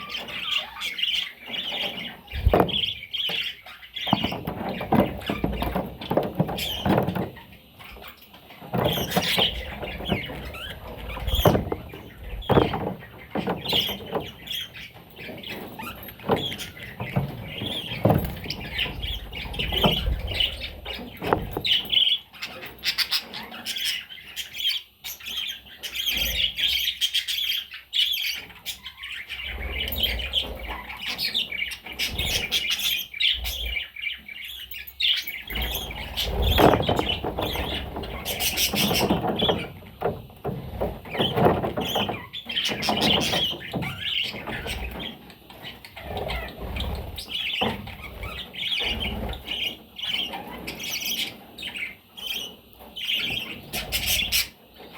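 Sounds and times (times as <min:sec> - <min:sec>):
budgerigars chirping: 0:00.0 - 0:40.1, 0:41.0 - 0:54.6.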